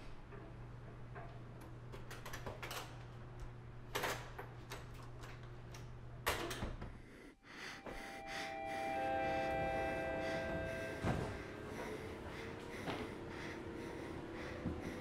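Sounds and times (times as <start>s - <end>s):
steady low hum: 2.8s - 15.0s.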